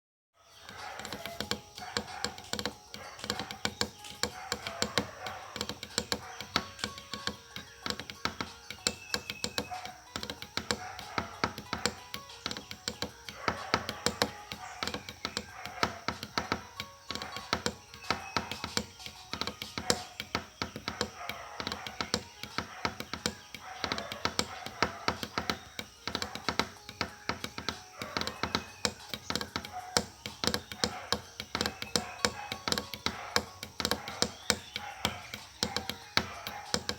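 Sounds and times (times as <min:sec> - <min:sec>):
faint music: 0:00.4 - 0:36.9
rapid irregular clicking and tapping: 0:00.5 - 0:36.9.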